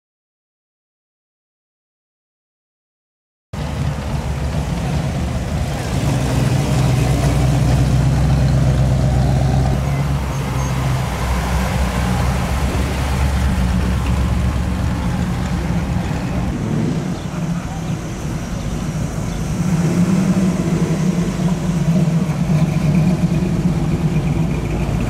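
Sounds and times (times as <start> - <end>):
car engines rumbling past: 3.6 - 25.0.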